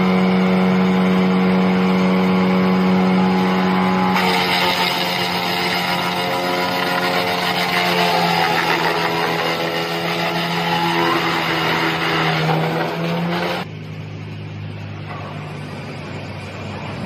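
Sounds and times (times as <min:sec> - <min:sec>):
wood chipper grinding log: 0:00.0 - 0:13.7
engine humming: 0:00.0 - 0:17.0.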